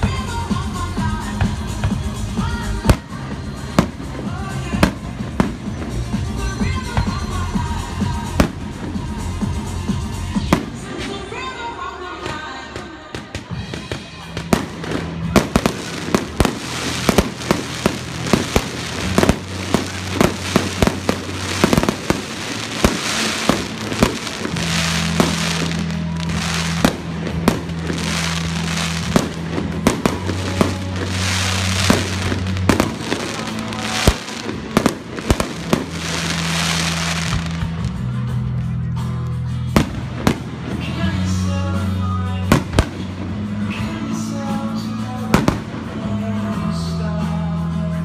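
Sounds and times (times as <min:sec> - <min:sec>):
fireworks bangs and crackle: 0:00.0 - 0:11.6, 0:12.2 - 0:38.2, 0:39.7 - 0:47.3.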